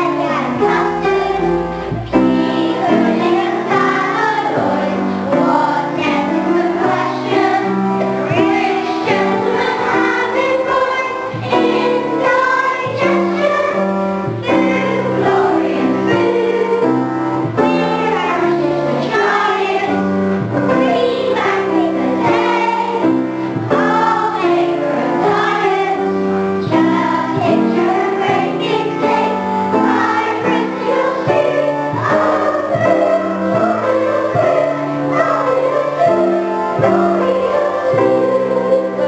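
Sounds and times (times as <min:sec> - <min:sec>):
children's chorus singing: 0:00.0 - 0:39.0.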